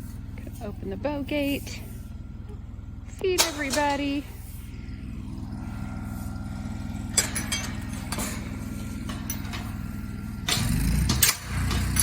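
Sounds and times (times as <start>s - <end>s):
engine rumble: 0.0s - 12.0s
vehicle engine idling: 0.0s - 12.0s.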